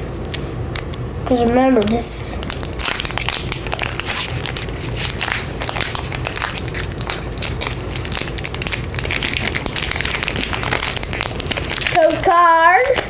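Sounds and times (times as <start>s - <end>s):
foil wrapper tearing and crinkling: 1.8s - 13.0s.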